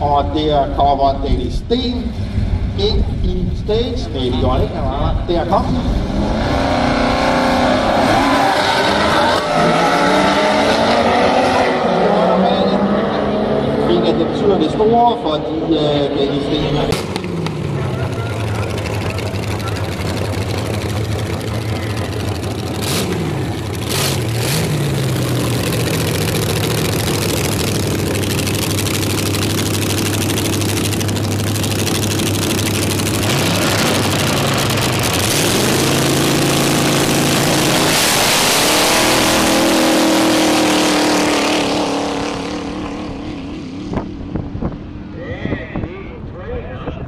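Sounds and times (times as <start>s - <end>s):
dragster engines revving: 0.0s - 45.2s.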